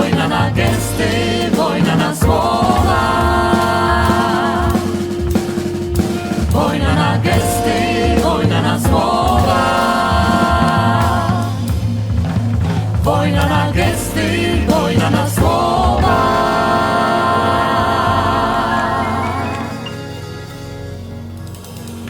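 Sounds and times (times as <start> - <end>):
drum beat: 0.0 - 20.1
vocal group singing in harmony: 0.0 - 20.4.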